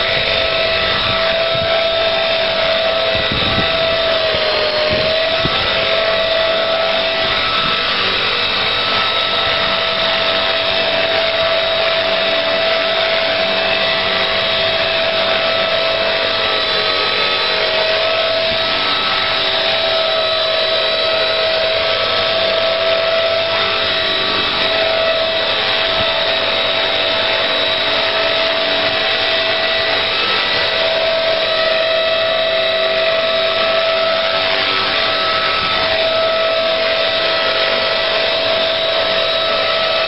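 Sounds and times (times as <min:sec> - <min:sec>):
model helicopter motor whining: 0:00.0 - 0:40.0.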